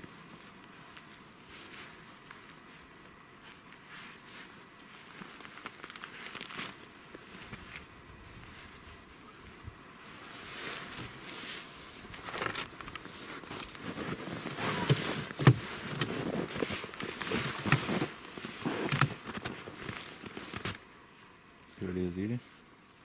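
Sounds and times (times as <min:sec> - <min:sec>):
crackles and clicks: 0:00.0 - 0:07.9, 0:10.3 - 0:20.8.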